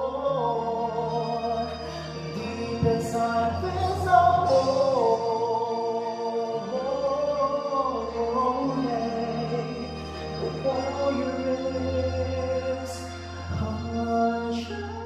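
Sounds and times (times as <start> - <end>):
instrumental accompaniment: 0.0 - 15.0
man singing gospel ballad: 0.0 - 15.0.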